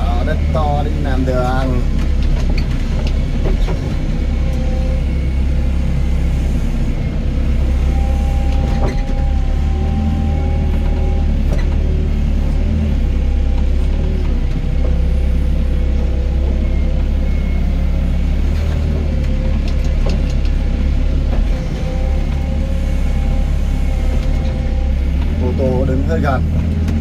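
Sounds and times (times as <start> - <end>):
excavator diesel engine running: 0.0 - 27.0
hydraulic whine: 3.4 - 27.0.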